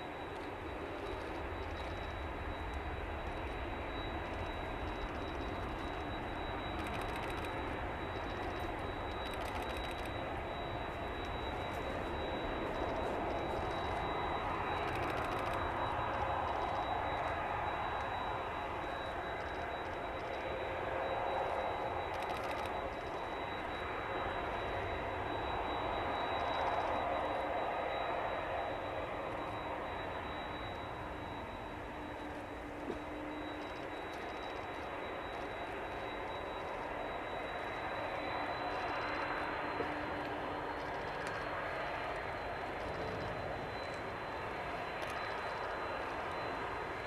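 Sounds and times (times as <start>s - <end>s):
jet engines running: 0.0s - 47.0s.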